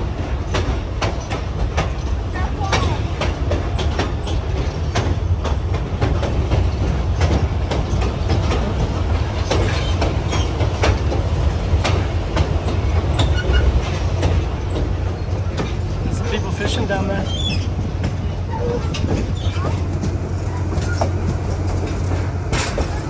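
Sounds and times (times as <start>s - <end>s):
train car rumbling on track: 0.0s - 23.0s
wheels clacking over rails: 0.0s - 23.0s.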